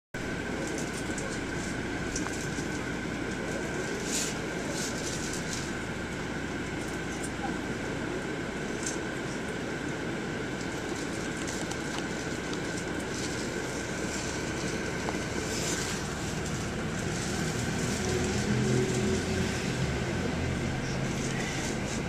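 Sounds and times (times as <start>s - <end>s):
bus engine and road rumble: 0.2s - 22.0s
deeper engine hum: 0.2s - 22.0s.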